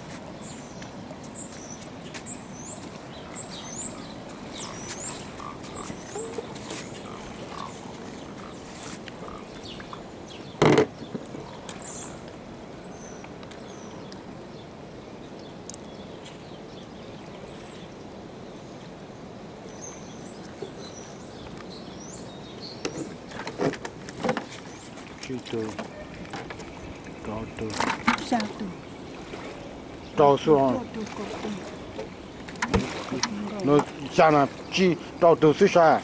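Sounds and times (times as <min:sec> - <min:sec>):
birds chirping: 0:00.0 - 0:36.0
steady outdoor hiss: 0:00.0 - 0:36.0.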